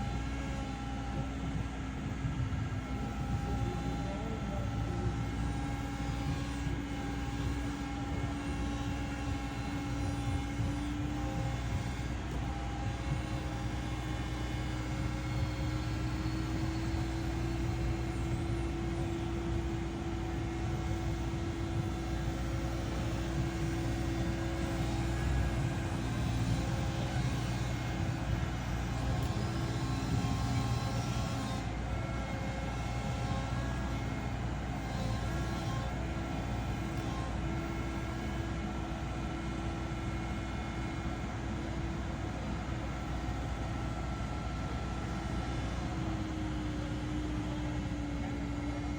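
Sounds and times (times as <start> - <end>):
excavator diesel engine hum: 0.0 - 48.9
hydraulic whine: 0.0 - 48.9.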